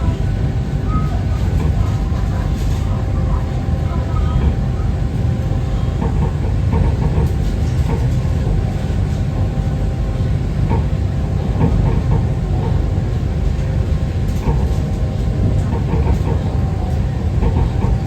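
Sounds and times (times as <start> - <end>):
monorail train rumble: 0.0 - 18.0.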